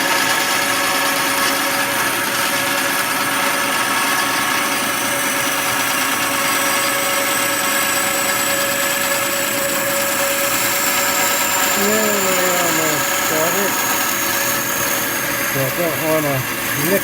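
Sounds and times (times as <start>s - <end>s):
bandsaw running: 0.0s - 17.0s.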